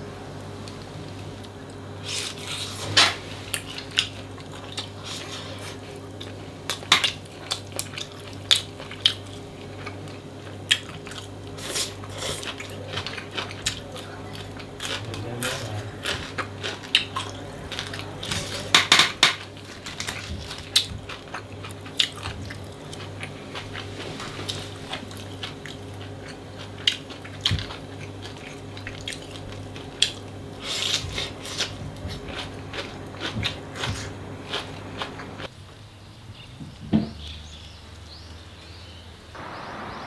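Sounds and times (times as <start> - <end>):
steady low hum: 0.0 - 40.0
chewing and crunching: 0.6 - 35.5.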